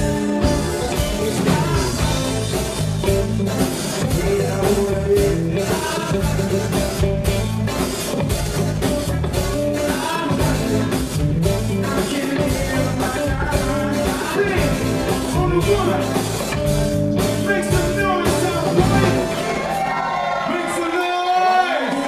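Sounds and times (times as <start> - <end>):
lead singing: 0.0 - 7.6, 8.8 - 20.6
drum kit: 0.0 - 20.4
electric guitar: 0.0 - 20.5
keyboards: 0.0 - 22.0.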